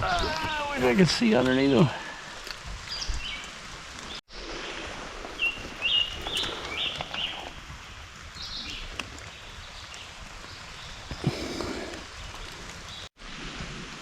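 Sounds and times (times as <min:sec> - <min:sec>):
rain hiss: 0:00.3 - 0:14.0.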